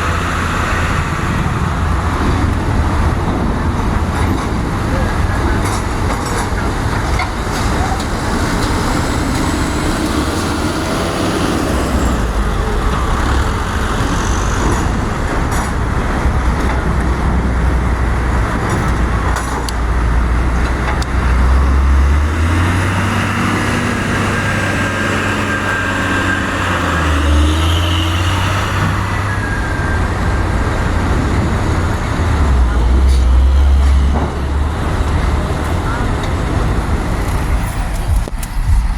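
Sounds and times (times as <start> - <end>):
heavy engines rumbling: 0.0 - 38.9.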